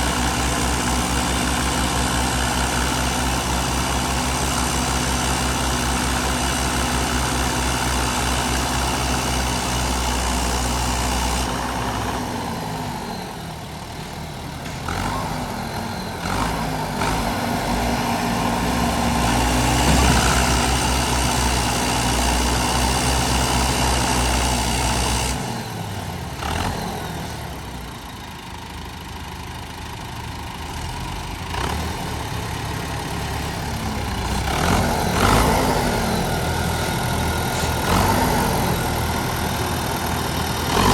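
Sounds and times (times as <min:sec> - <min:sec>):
tractor diesel engine revving: 0:00.0 - 0:40.9.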